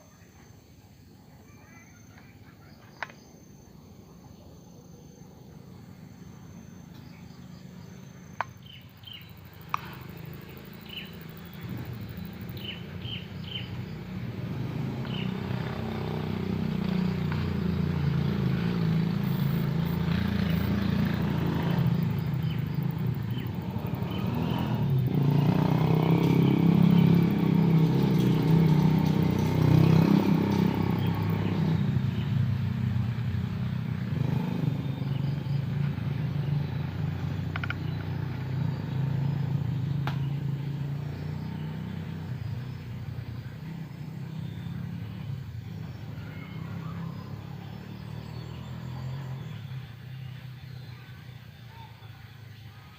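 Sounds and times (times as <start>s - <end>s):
vehicle engine running: 2.0s - 52.9s.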